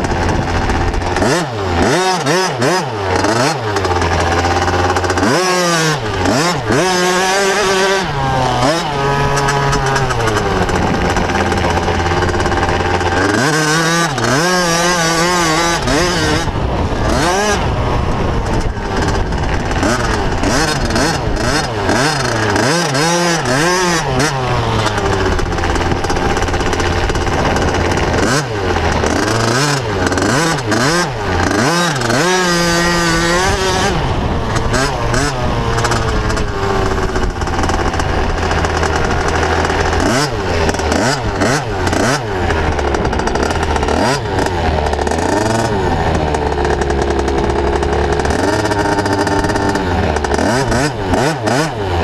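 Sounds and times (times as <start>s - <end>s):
motorbike engine revving: 0.0s - 52.0s.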